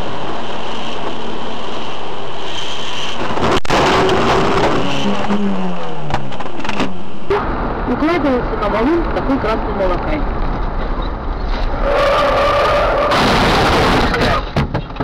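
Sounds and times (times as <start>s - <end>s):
car driving on wet road: 0.0s - 14.6s.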